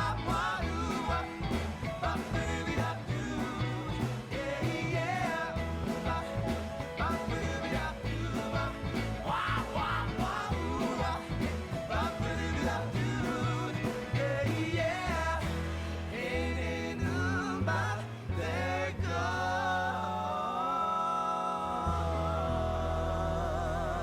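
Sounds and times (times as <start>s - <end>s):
rock and roll song: 0.0s - 24.0s.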